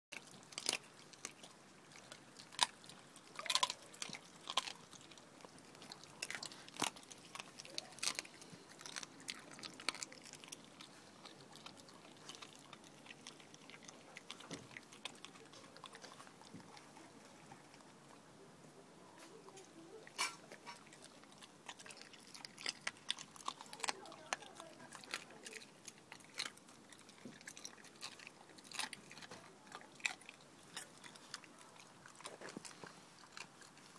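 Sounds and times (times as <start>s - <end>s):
dog chewing raw chicken: 0.1s - 18.3s, 19.4s - 33.9s.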